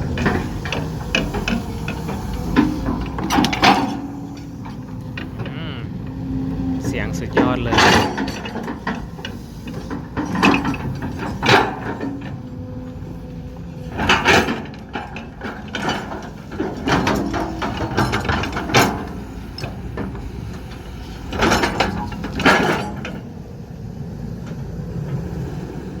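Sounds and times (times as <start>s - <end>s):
excavator bucket clanking metal: 0.0s - 5.5s, 7.0s - 13.1s, 13.8s - 23.3s
excavator engine running: 0.0s - 26.0s.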